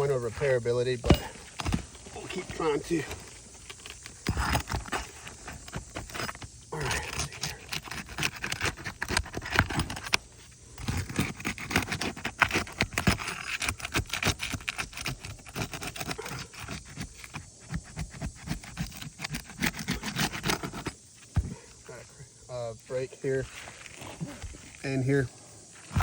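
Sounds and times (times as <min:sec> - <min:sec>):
roof shingles scraping and crackling: 0:00.0 - 0:21.9.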